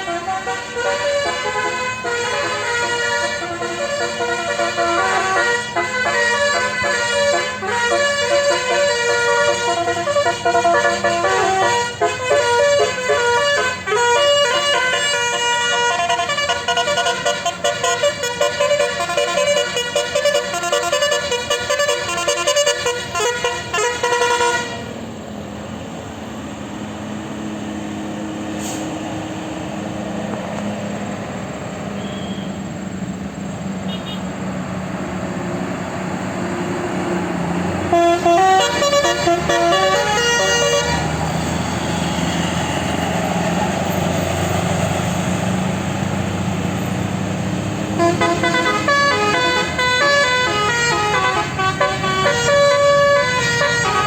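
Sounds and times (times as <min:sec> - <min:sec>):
bus horn multi-note tunes: 0:00.0 - 0:25.1, 0:31.9 - 0:32.6, 0:33.8 - 0:34.4, 0:36.0 - 0:54.0
bus engine running: 0:00.0 - 0:54.0
road noise: 0:00.0 - 0:54.0.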